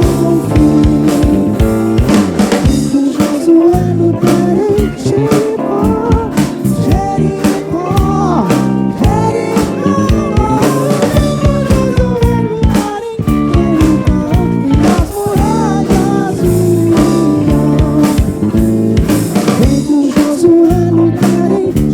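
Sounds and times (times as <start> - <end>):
bending lead melody: 0.0 - 21.9
drum kit beat: 0.0 - 21.9
live band music: 0.0 - 21.9.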